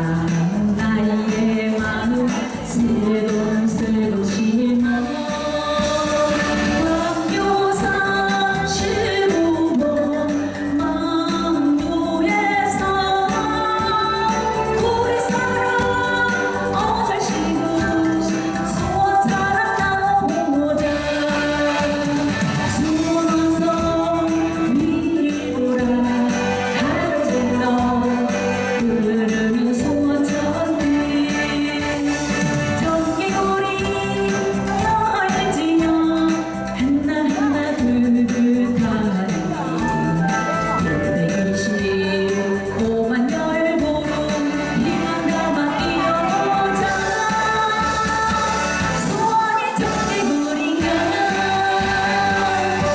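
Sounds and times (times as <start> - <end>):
backing track music: 0.0 - 52.9
woman singing: 0.0 - 52.9.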